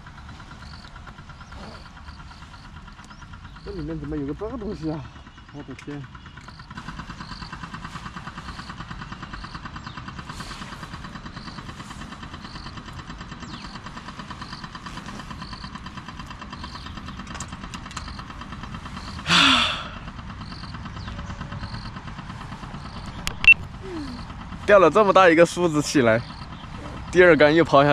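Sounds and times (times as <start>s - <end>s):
faint ticking: 0.0s - 27.8s
engine-like drone: 0.0s - 27.9s.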